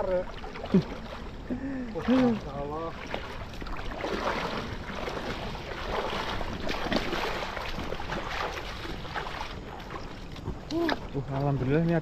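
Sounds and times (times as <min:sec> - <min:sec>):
running water: 0:00.0 - 0:12.0
water splashing: 0:00.0 - 0:12.0.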